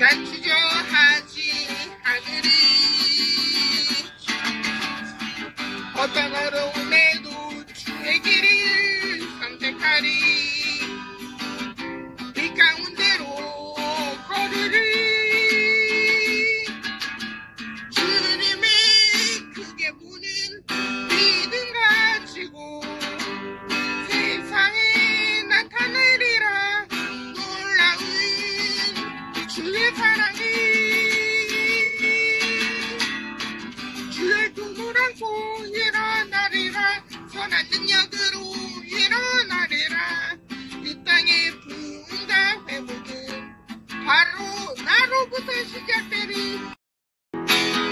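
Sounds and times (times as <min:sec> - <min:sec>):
woman singing: 0:00.0 - 0:11.2, 0:12.3 - 0:16.7, 0:17.9 - 0:33.1, 0:34.1 - 0:43.4, 0:44.0 - 0:46.8
strummed acoustic guitar: 0:00.0 - 0:46.8, 0:47.4 - 0:47.9.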